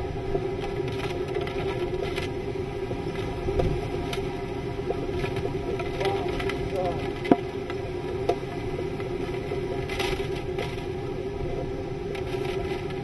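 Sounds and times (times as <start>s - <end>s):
low hum: 0.0s - 13.0s
wind and rain lashing glass: 0.0s - 13.0s.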